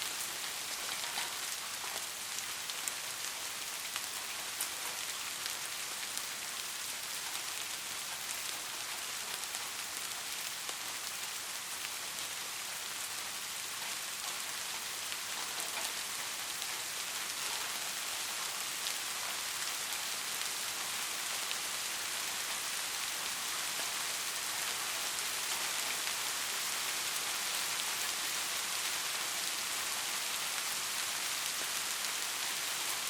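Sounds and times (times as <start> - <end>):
soft rain: 0.0 - 33.0.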